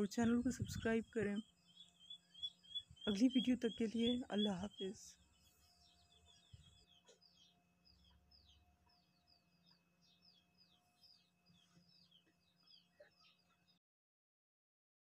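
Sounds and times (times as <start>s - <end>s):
birds chirping faintly: 0.0s - 13.8s.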